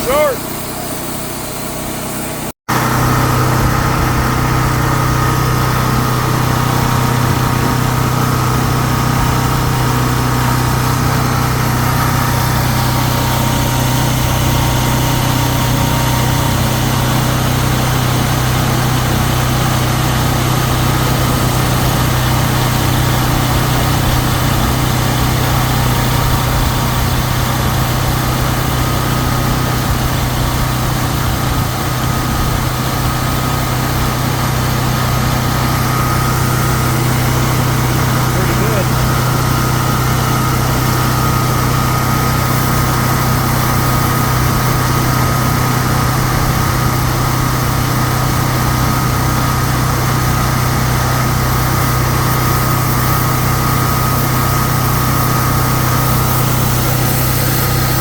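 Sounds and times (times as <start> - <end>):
belt grinder motor humming: 0.0 - 58.0.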